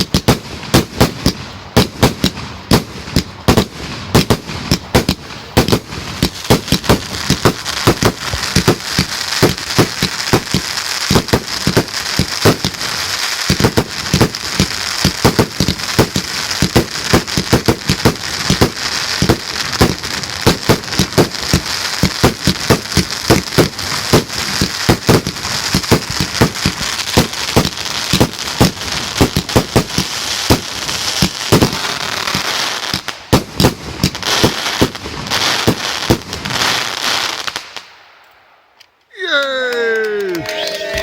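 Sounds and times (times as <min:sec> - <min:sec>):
fireworks bangs: 0:00.0 - 0:38.6
crackling hiss: 0:00.0 - 0:39.2.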